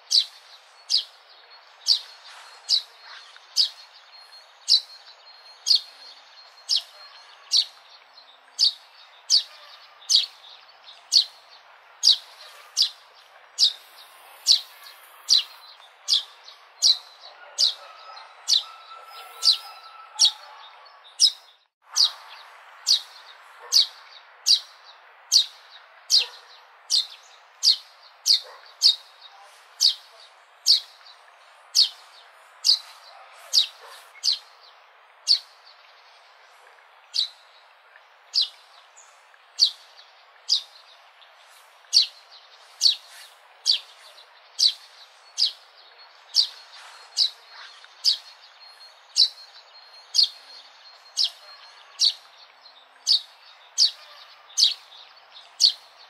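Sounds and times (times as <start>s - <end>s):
sparrow chirping: 0.0s - 36.0s, 37.1s - 37.6s, 38.2s - 56.0s
faint background noise: 0.0s - 56.0s.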